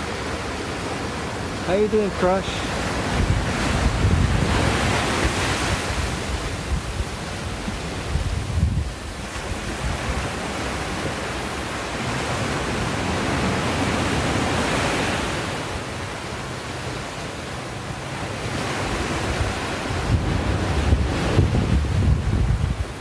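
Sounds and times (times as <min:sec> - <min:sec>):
ocean surf washing up beach: 0:00.0 - 0:23.0
wind rumbling on microphone: 0:02.7 - 0:16.2, 0:18.0 - 0:23.0.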